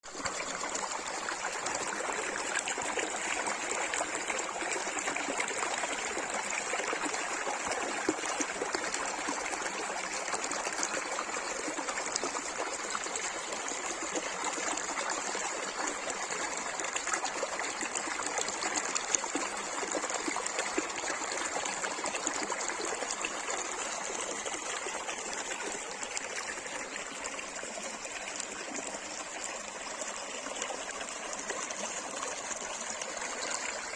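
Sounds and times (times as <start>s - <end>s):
stream trickling over stones: 0.0s - 33.9s.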